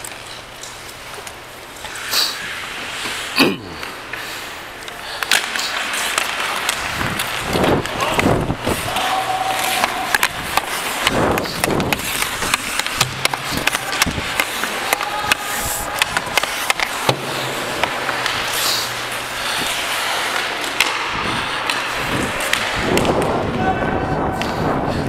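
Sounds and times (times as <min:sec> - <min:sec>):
hockey sticks and puck clacking: 0:00.0 - 0:25.0
skates scraping on ice: 0:00.0 - 0:25.0.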